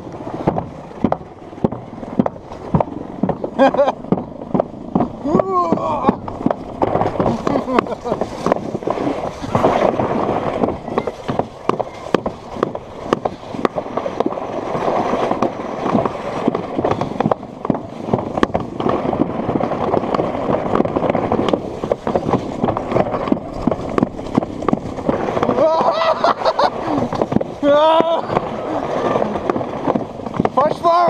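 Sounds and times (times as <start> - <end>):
sharp clacks and knocks: 0.0 - 28.6, 29.2 - 31.0
sled rumbling down track: 0.0 - 31.0.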